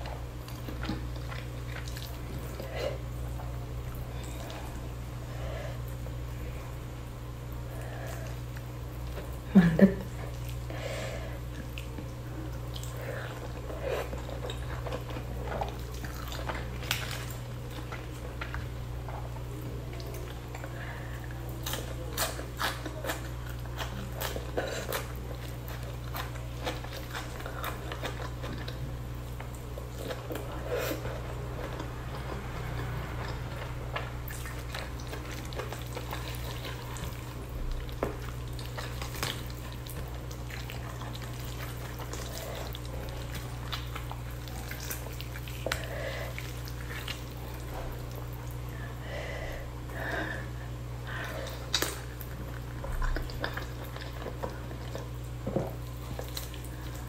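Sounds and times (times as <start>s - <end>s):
chewing and wet mouth sounds: 0.0s - 57.0s
steady low hum: 0.0s - 57.0s.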